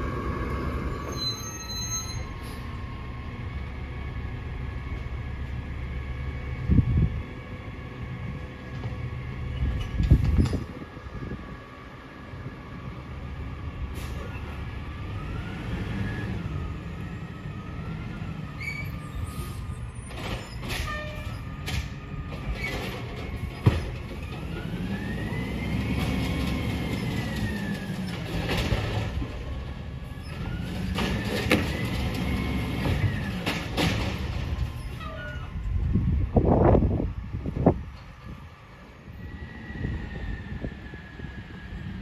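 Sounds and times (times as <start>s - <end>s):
garbage truck diesel engine: 0.0s - 42.0s.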